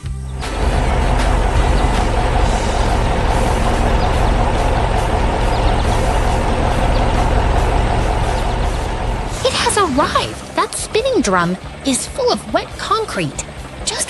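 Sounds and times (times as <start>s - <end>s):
heavy truck engine rumbling: 0.0s - 14.0s.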